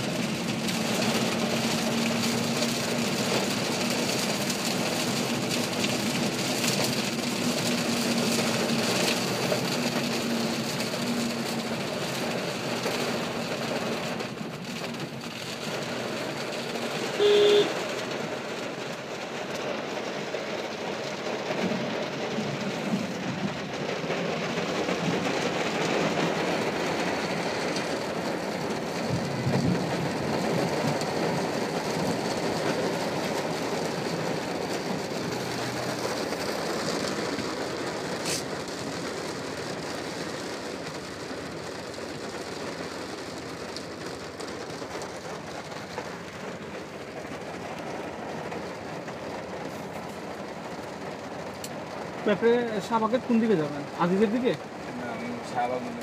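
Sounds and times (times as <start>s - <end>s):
car and traffic rumble: 0.0s - 56.0s
heavy rain on car roof: 0.0s - 56.0s.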